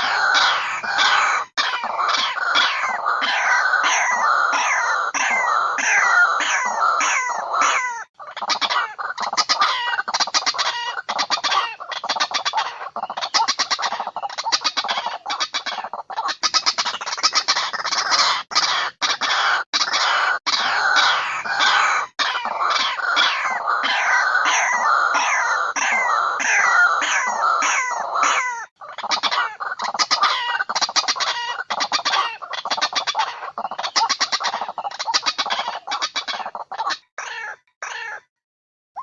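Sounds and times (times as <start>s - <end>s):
bird calling harsh repeated notes: 0.0s - 38.4s.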